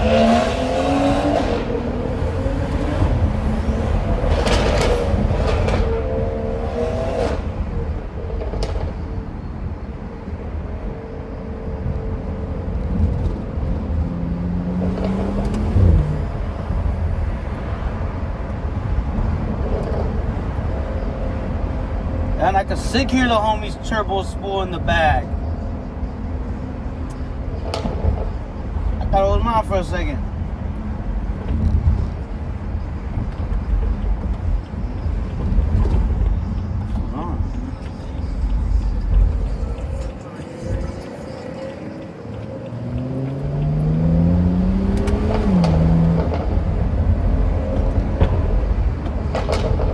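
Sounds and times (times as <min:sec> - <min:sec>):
car accelerating with turbo spooling: 0:00.0 - 0:49.9
car engine and road rumble: 0:00.0 - 0:49.9.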